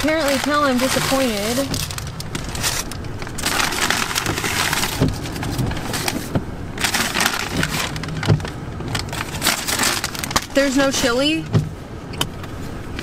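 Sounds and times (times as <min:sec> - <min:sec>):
paper bag rustling: 0:00.0 - 0:10.9.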